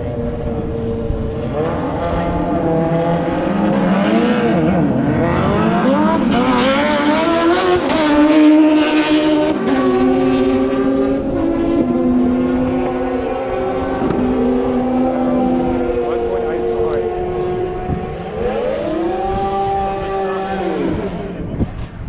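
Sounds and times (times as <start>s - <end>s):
racing engine at full throttle: 0.0s - 22.0s.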